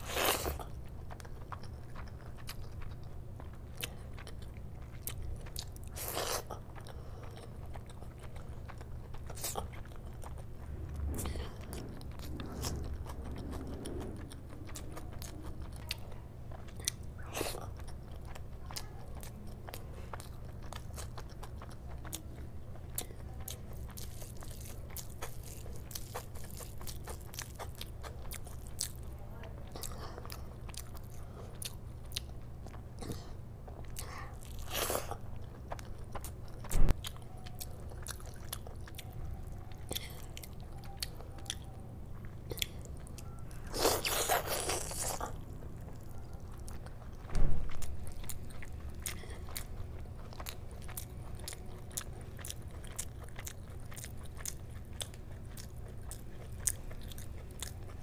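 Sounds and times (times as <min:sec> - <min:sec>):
chewing and mouth sounds: 0:00.0 - 0:58.0
low steady hum: 0:00.0 - 0:58.0.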